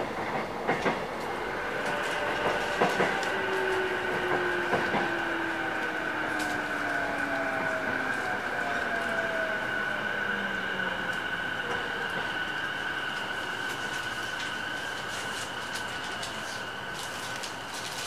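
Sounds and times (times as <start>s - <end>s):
electric train motor whine: 1.2s - 18.0s.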